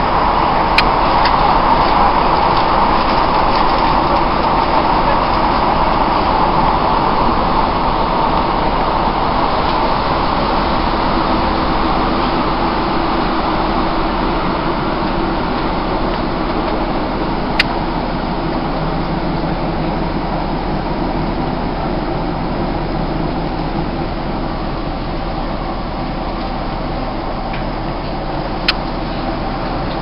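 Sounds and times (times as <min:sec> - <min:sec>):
train running noise: 0:00.0 - 0:30.0.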